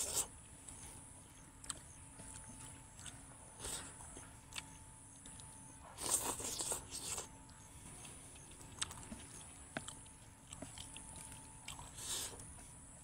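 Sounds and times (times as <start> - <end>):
chewing: 0.0 - 12.8.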